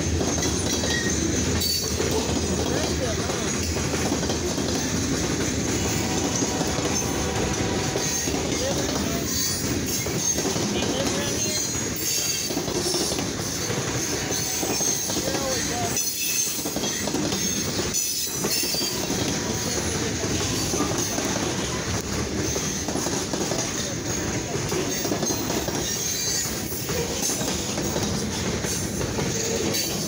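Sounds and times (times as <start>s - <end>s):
train wheels clattering over rails: 0.0s - 30.0s.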